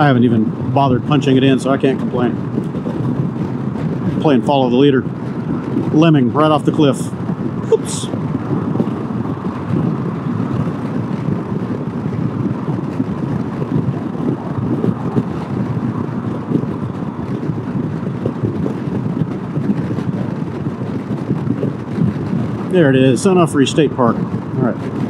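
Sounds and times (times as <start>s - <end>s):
road and traffic noise: 0.0s - 25.0s
wind buffeting microphone: 0.0s - 25.0s.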